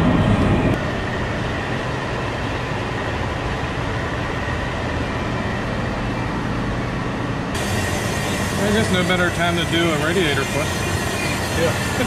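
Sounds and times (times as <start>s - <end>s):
drum fan running: 0.0s - 12.0s
faint high whine: 0.0s - 12.0s.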